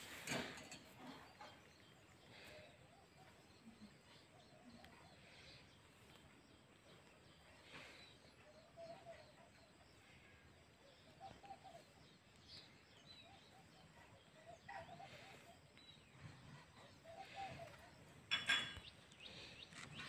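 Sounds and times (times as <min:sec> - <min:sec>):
distant birds chirping: 0:00.0 - 0:20.0.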